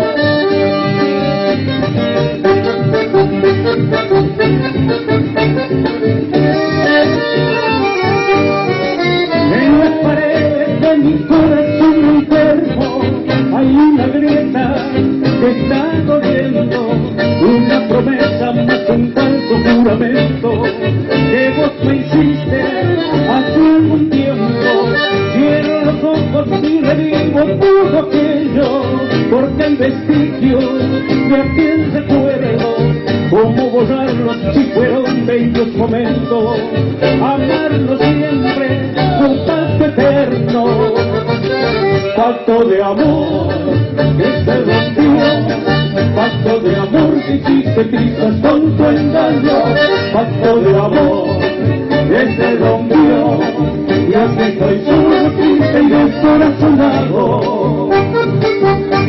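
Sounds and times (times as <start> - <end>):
accordion melody: 0.0 - 59.0
live band playing latin dance music: 0.0 - 59.0.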